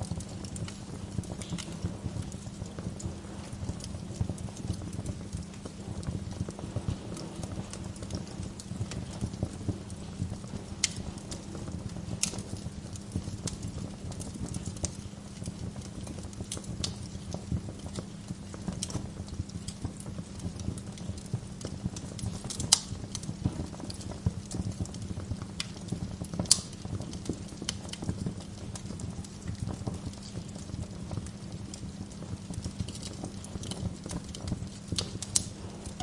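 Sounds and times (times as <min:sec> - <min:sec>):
sharp pops from fire: 0:00.0 - 0:36.0
wood fire crackling: 0:00.0 - 0:36.0.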